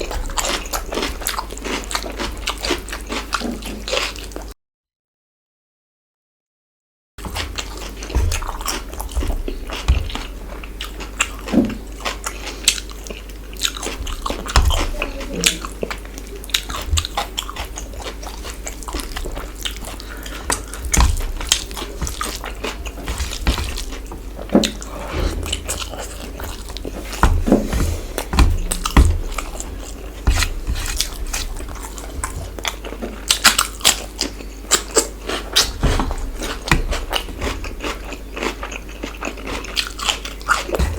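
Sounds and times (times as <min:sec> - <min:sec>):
close chewing and biting: 0:00.0 - 0:04.5, 0:07.2 - 0:40.9
food crunching: 0:00.0 - 0:04.5, 0:07.2 - 0:40.9.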